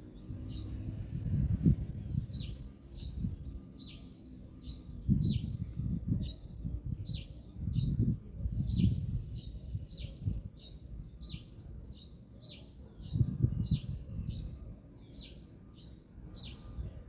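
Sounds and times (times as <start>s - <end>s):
wind buffeting microphone: 0.0s - 12.0s, 12.9s - 15.3s, 16.2s - 17.0s.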